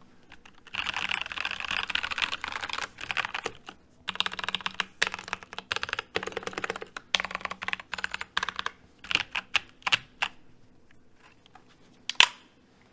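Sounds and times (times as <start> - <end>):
mechanical keyboard typing: 0.0 - 10.4.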